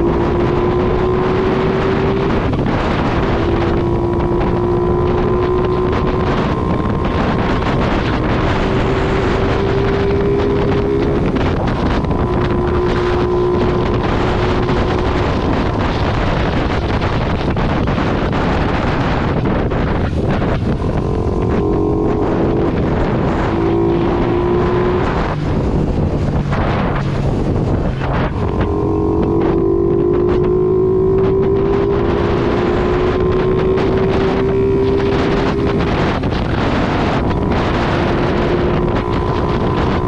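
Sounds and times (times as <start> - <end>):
motorcycle engine cruising: 0.0 - 40.0
wind buffeting microphone: 0.0 - 40.0.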